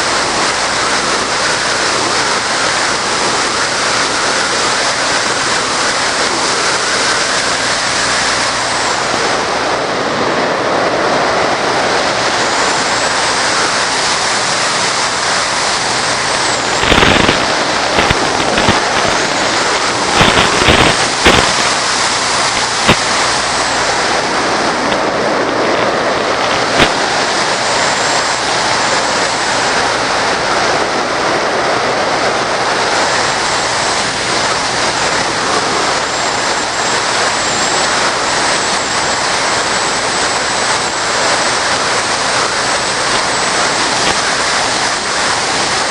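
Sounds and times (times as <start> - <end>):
electric motor whine: 0.0 - 45.9
model plane rushing wind: 0.0 - 45.9
radio interference crackles and pops: 0.0 - 45.9.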